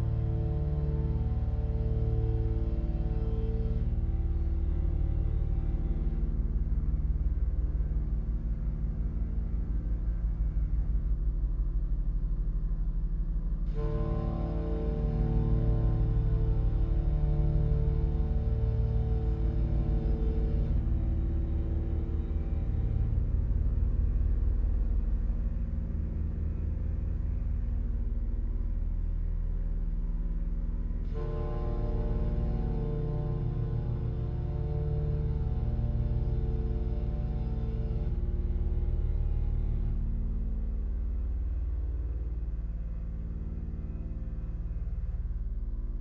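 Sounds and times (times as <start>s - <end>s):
deep electronic drone: 0.0s - 46.0s.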